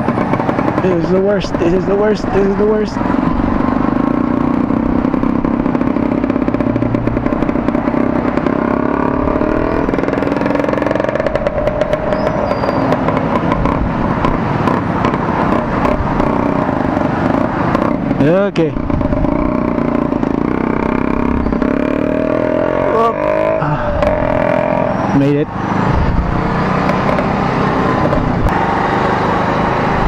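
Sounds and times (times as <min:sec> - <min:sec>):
bus engine: 0:00.0 - 0:30.0
motorcycle engine running: 0:00.0 - 0:30.0.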